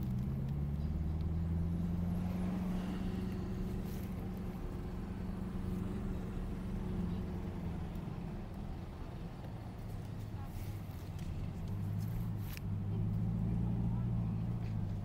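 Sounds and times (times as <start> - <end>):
car engine drone from cabin: 0.0 - 15.0.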